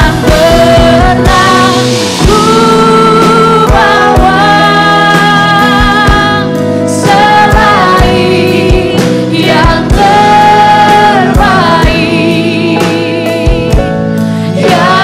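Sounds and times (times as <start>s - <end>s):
band with steady drum beat: 0.0s - 15.0s
singers holding long lines: 0.0s - 15.0s.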